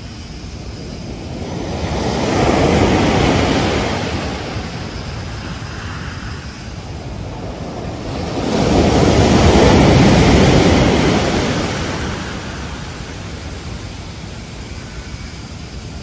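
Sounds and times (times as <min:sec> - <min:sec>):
ocean surf on beach: 0:00.0 - 0:16.0.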